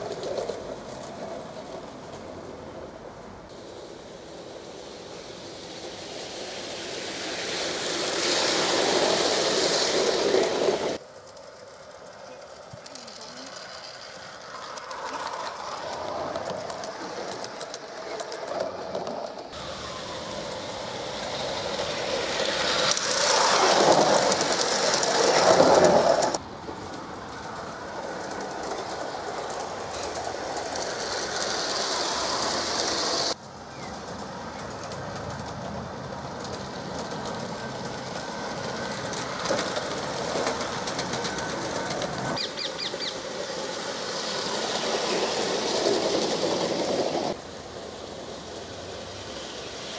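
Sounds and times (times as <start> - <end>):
model train wheels rolling on rails: 0.0 - 49.9.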